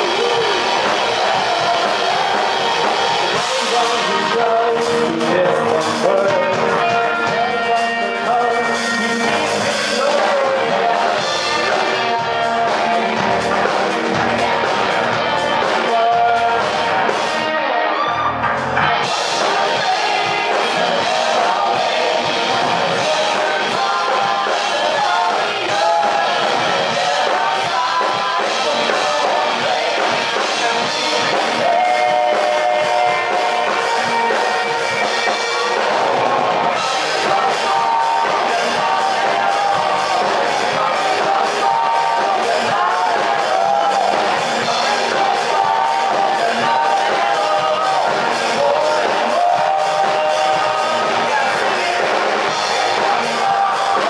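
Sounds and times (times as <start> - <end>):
man singing: 0.0 - 18.2, 18.8 - 54.0
live rock band playing: 0.0 - 54.0.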